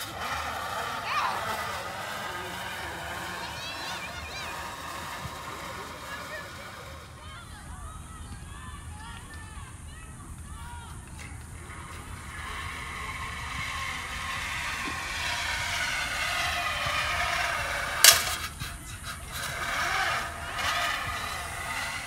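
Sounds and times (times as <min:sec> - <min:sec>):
zip line trolley whirring: 0:00.0 - 0:22.0.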